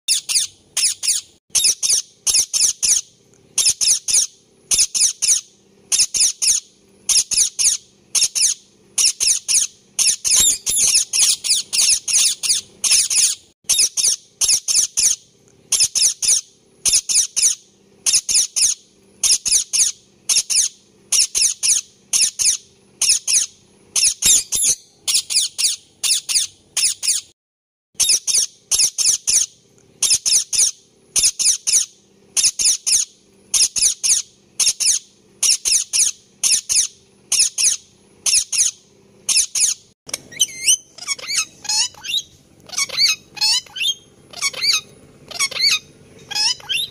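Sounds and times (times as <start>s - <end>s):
parakeet squawking: 0.1s - 3.0s, 3.6s - 27.3s, 28.0s - 46.9s.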